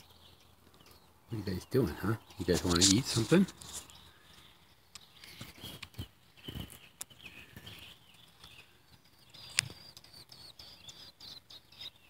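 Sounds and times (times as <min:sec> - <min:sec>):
nestlings peeping: 0:00.0 - 0:12.0.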